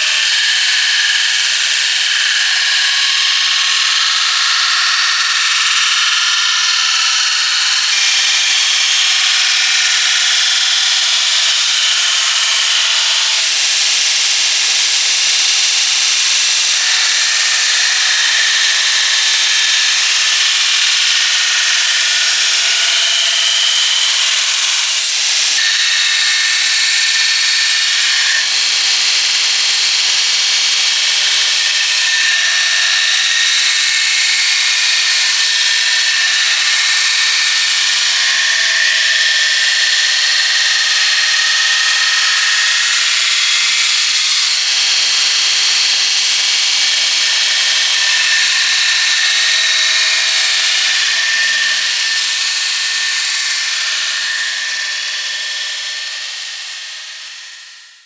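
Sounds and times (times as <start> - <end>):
power tool grinding steel: 0.0 - 58.0.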